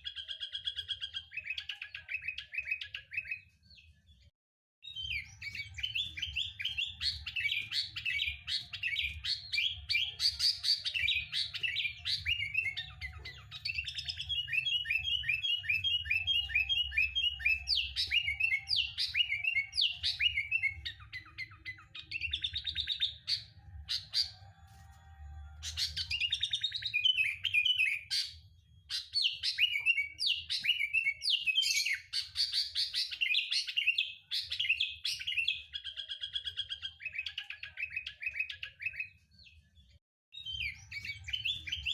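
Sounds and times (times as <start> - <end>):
bird chirping and chattering: 0.0 - 3.6, 4.9 - 24.4, 25.6 - 39.2.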